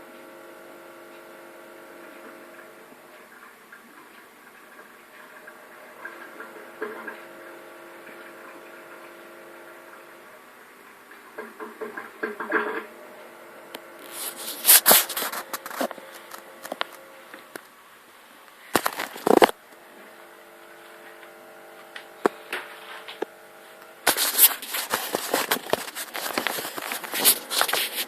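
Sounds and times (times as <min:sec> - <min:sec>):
dishwasher humming: 0:00.0 - 0:28.0.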